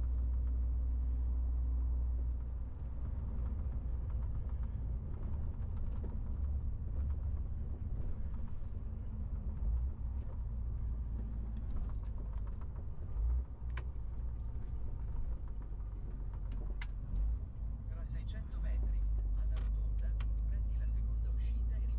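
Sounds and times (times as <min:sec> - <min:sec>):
truck engine and road rumble: 0:00.0 - 0:21.9.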